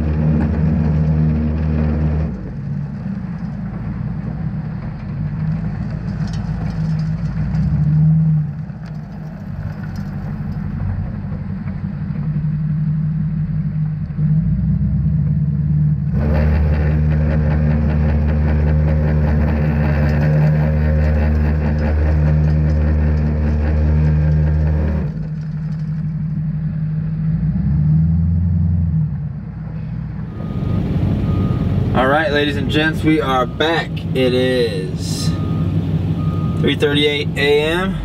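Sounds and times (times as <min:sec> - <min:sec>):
truck and salt spreader hum: 0:00.0 - 0:38.0.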